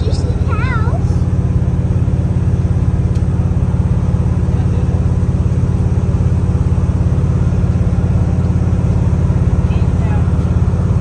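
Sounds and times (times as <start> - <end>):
vehicle ride rumble: 0.0 - 11.0.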